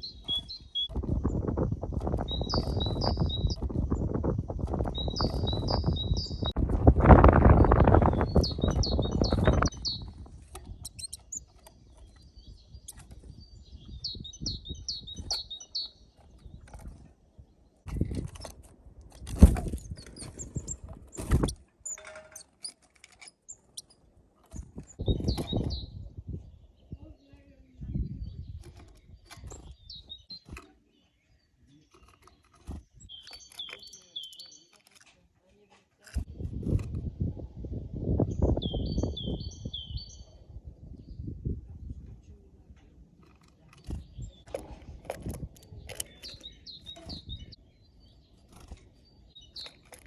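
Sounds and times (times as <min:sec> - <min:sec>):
songbird chirping: 0:00.0 - 0:06.6, 0:07.2 - 0:36.8, 0:38.1 - 0:50.0
birds tapping on feeder: 0:00.0 - 0:26.1, 0:28.0 - 0:35.2, 0:43.1 - 0:50.0.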